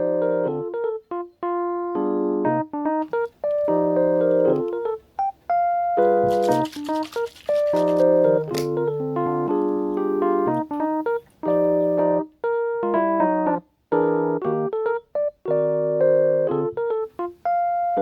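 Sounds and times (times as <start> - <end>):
electric piano chords: 0.0 - 18.0.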